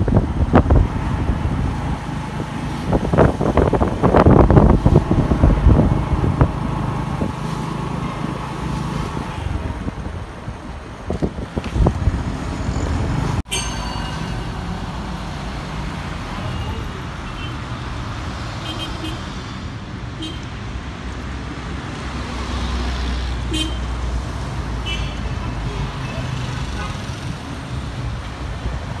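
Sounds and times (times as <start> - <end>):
cars passing close by: 0.0 - 29.0.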